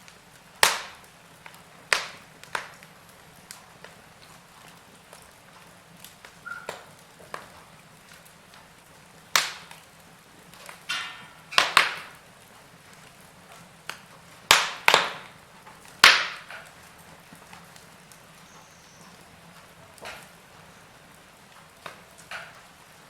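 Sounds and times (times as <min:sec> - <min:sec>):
faint steady background noise: 0:00.0 - 0:23.0
wood fire crackling and popping: 0:00.0 - 0:23.0.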